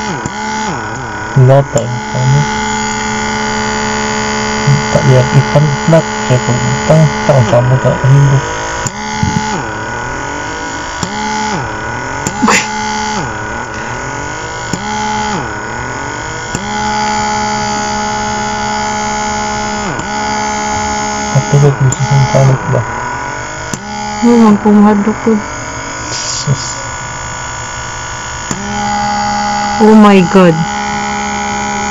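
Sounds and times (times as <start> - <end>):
low-pitched bursts: 0.0 - 31.9
small vacuum pump humming: 0.0 - 31.9.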